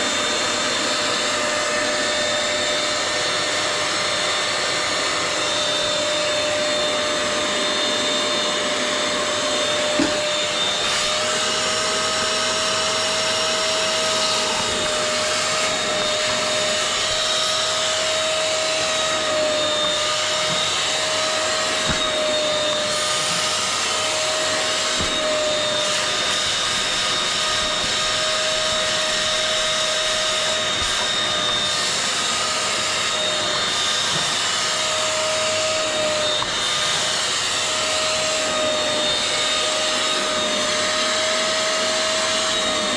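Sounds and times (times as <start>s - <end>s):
wet vacuum whining: 0.0s - 42.9s.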